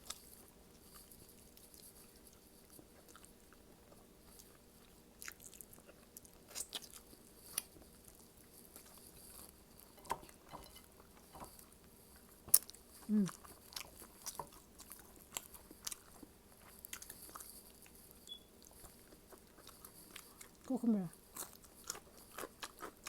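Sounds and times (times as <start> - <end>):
faint close-up chewing: 0.0 - 23.0.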